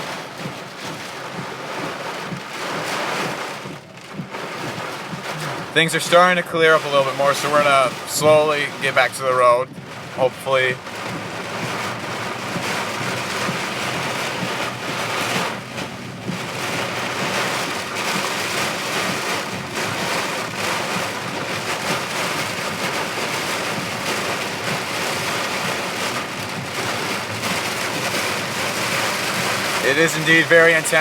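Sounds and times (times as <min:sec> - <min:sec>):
rain pelting car roof: 0:00.0 - 0:31.0.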